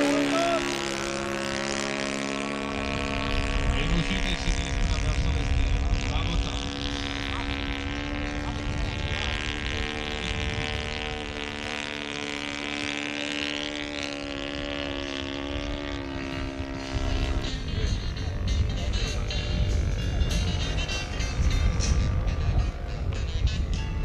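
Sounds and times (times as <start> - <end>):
biplane engine droning: 0.0 - 24.0.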